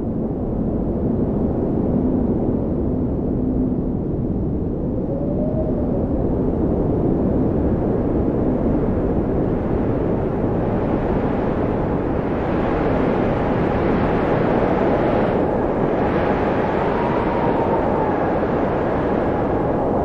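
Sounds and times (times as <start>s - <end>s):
blizzard wind blowing: 0.0s - 20.0s.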